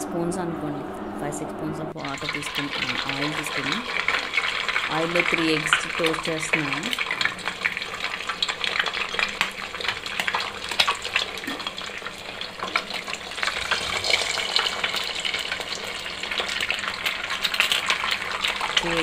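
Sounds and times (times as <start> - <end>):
eggs sizzling in hot oil: 2.0 - 19.0.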